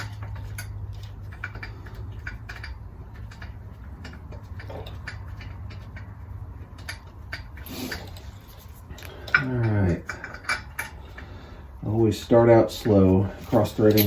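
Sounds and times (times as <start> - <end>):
metal bolts clicking: 0.0 - 11.3, 12.8 - 14.0
steady low hum: 0.0 - 14.0.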